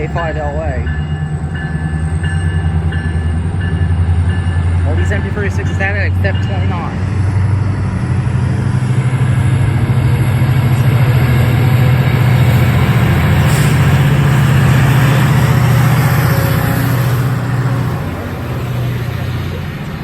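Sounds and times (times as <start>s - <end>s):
diesel locomotive engine droning: 0.0s - 20.0s.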